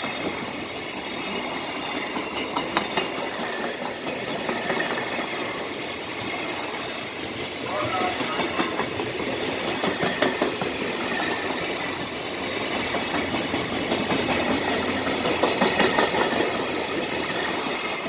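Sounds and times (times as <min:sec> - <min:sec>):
freight train rumbling past: 0:00.0 - 0:18.0
wheels clattering over rail joints: 0:01.6 - 0:18.0.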